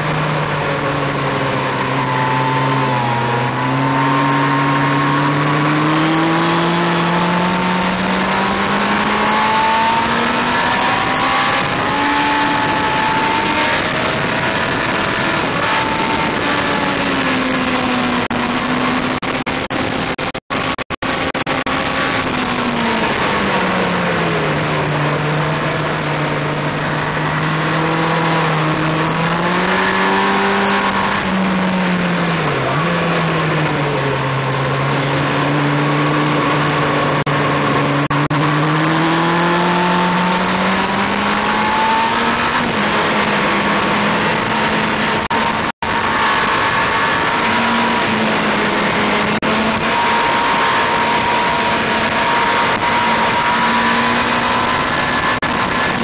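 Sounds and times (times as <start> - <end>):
motorcycle engine running hard: 0.0 - 56.0
wind noise: 0.0 - 56.0.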